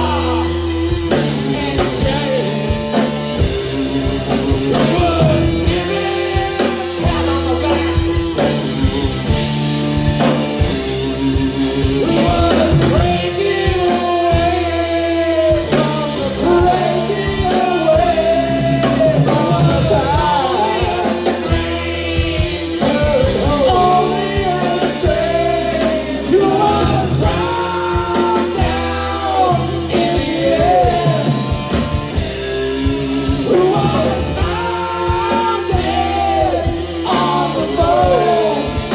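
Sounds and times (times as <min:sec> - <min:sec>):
person singing lead vocal: 0:00.0 - 0:09.6, 0:11.0 - 0:38.9
drum kit: 0:00.0 - 0:38.9
electric guitar: 0:00.0 - 0:38.9
keyboards: 0:00.0 - 0:38.9.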